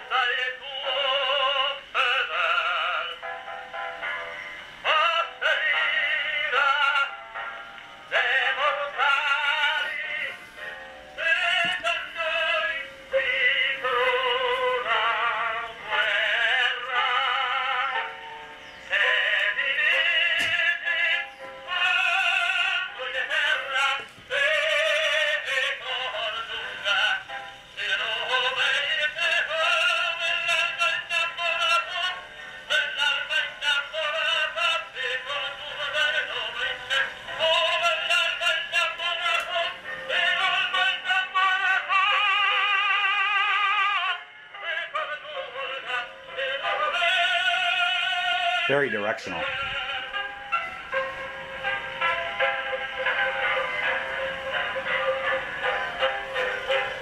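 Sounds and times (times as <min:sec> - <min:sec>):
tinny phonograph singing voice: 0:00.0 - 0:57.0.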